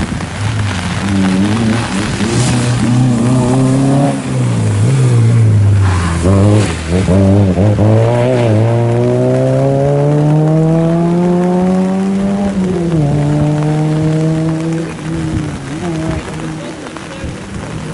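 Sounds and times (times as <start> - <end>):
rally car engine revving: 0.0 - 17.9.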